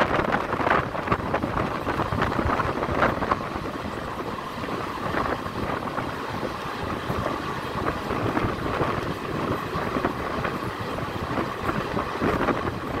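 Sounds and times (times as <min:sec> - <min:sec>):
train wheels rumbling on track: 0:00.0 - 0:13.0
wind noise on microphone: 0:00.0 - 0:13.0.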